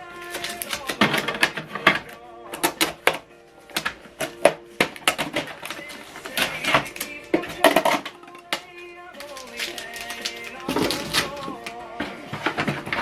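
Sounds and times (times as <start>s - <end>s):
background music: 0.0s - 13.0s
plastic parts and packaging clatter: 0.0s - 13.0s.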